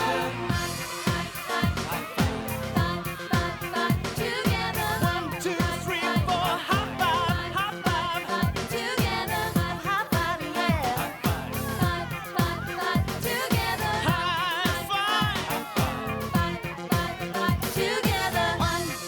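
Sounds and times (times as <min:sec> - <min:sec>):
upbeat pop music: 0:00.0 - 0:19.0.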